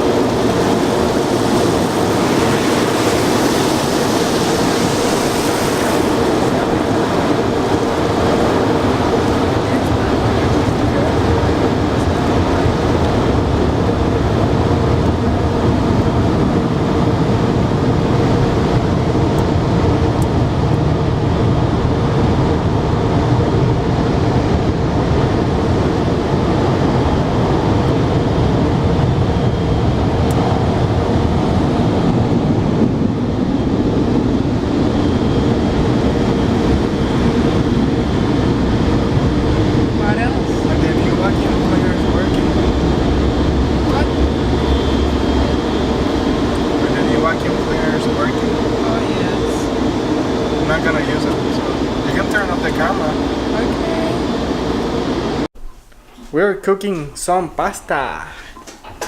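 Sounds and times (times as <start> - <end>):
water spray and machinery rushing: 0.0 - 19.7, 25.6 - 55.5
constant hum: 0.0 - 59.0.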